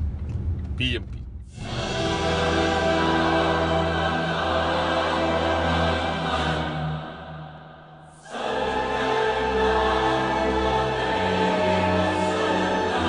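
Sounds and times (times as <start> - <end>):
music with choir-like chords: 1.6 - 13.0.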